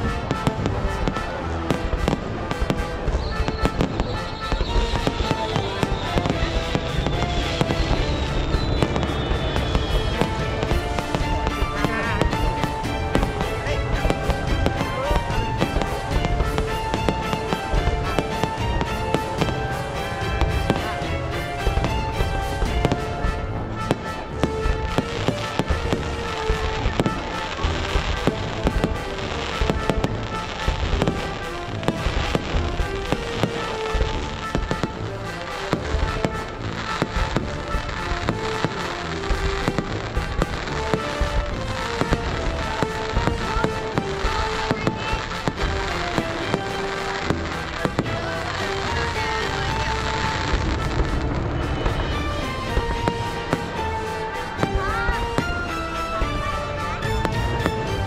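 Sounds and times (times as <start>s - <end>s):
fireworks bangs: 0.0s - 58.0s
melodic music: 0.0s - 58.0s.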